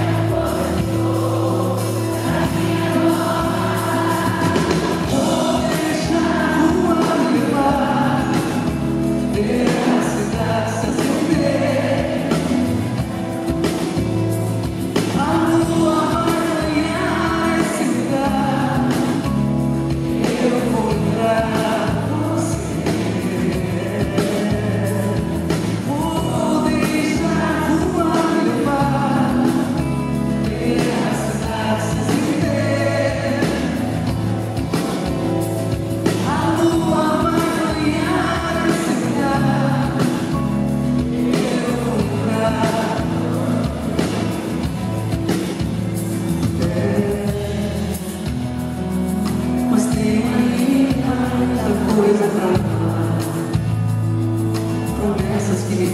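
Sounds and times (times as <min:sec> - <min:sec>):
woman singing: 0:00.0 - 0:13.0, 0:15.0 - 0:34.2, 0:36.0 - 0:44.3, 0:46.5 - 0:48.0, 0:49.6 - 0:53.6, 0:54.9 - 0:55.9
acoustic guitar: 0:00.0 - 0:55.9.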